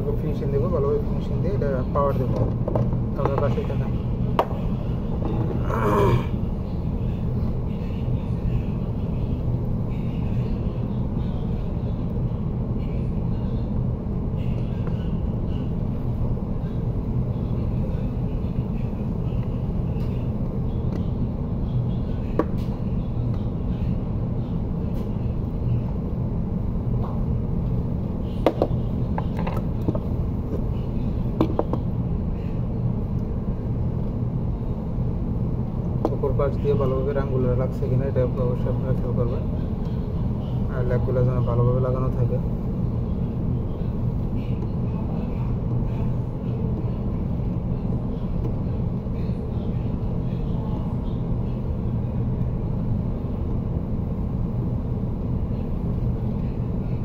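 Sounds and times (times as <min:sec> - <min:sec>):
constant hum: 0:00.0 - 0:57.0
low background rumble: 0:00.0 - 0:57.0.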